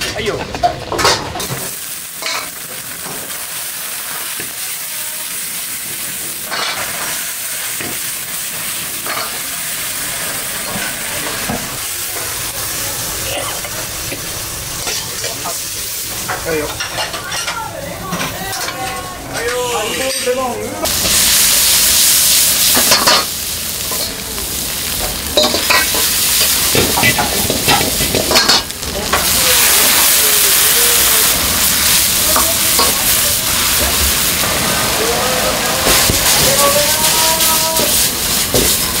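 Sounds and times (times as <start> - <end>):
shrimp sizzling in a wok: 0.0 - 39.0.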